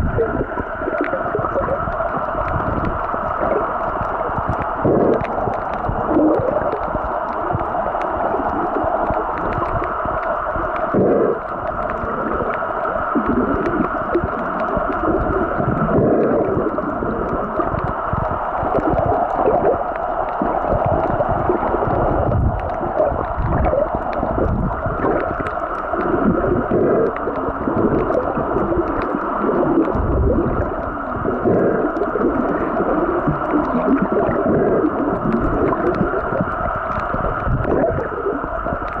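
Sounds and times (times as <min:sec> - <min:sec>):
muffled underwater rushing: 0:00.0 - 0:39.0
faint ticks: 0:00.5 - 0:39.0.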